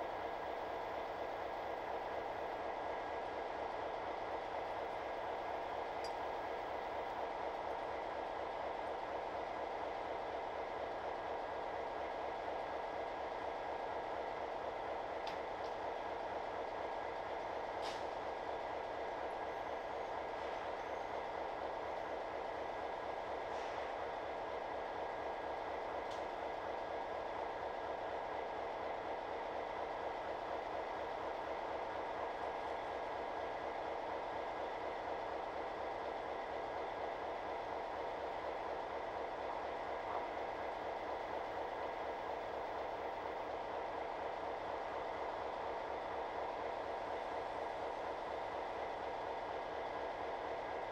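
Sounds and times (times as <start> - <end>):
diesel locomotive running: 0.0 - 50.9.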